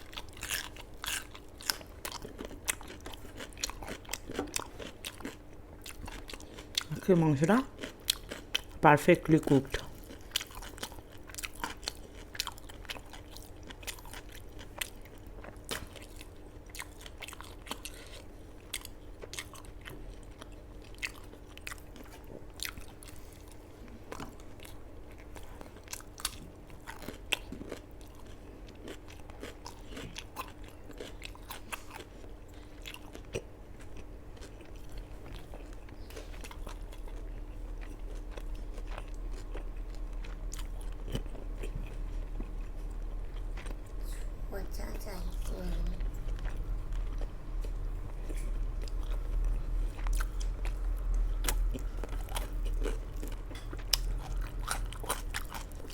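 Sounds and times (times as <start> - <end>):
person chewing food: 0.0 - 44.4, 45.3 - 55.9
faint steady hum: 0.0 - 55.9.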